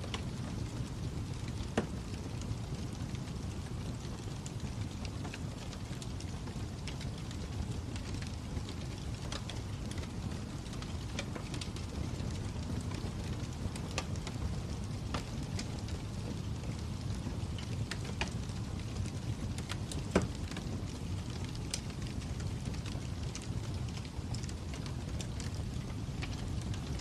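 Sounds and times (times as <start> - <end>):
fire crackling: 0.0 - 27.0.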